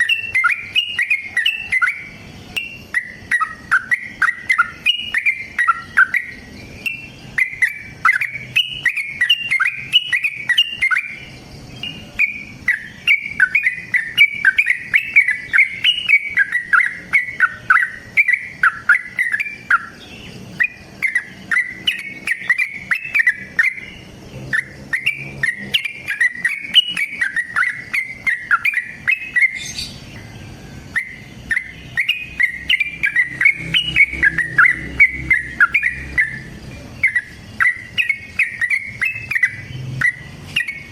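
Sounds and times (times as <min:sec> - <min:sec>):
bird song chattering: 0:00.0 - 0:40.9.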